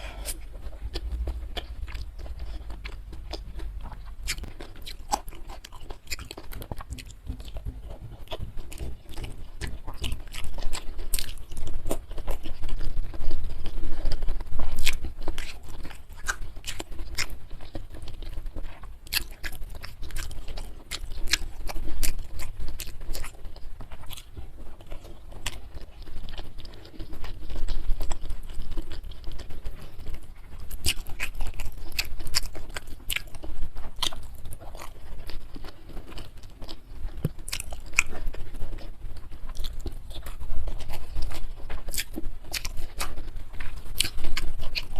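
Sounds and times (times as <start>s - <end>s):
chewing crunchy food: 0.0s - 44.9s.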